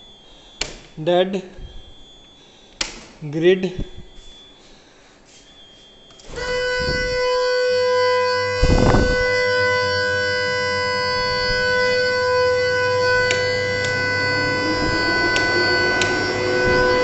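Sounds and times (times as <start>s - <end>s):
electric alarm hooter: 0.0s - 17.0s.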